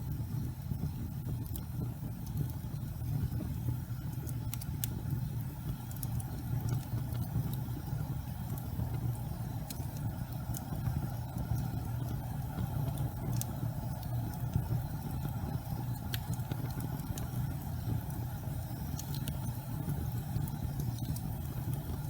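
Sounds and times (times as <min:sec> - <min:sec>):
faint ticks and crackles: 0:00.0 - 0:22.0
gas fireplace flames rumbling: 0:00.0 - 0:22.0.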